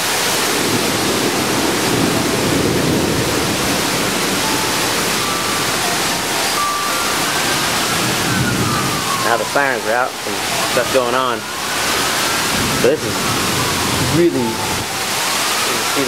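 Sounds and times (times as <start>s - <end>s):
distant sirens wailing: 0.0s - 16.0s
heavy rain pouring: 0.0s - 16.0s.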